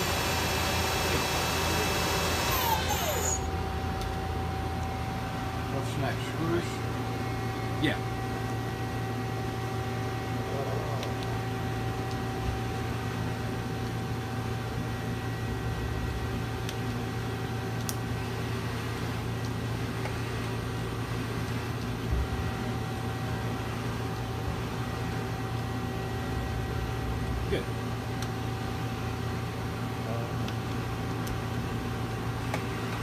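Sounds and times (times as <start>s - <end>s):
lathe humming and whining: 0.0s - 33.0s.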